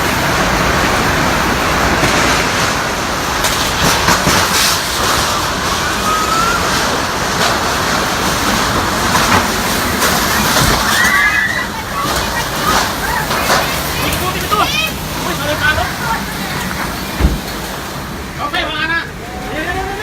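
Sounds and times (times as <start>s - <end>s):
heavy rain: 0.0s - 20.0s
wind gusts: 0.0s - 20.0s.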